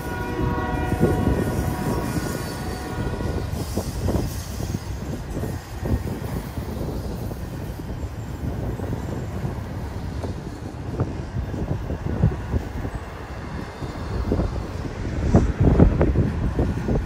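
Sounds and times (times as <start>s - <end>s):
train rumbling past: 0.0s - 17.0s
wheels clacking on rails: 0.0s - 17.0s.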